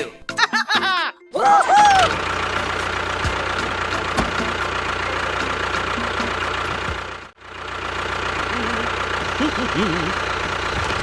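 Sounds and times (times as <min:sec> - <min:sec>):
small tractor engine running: 0:01.7 - 0:11.0.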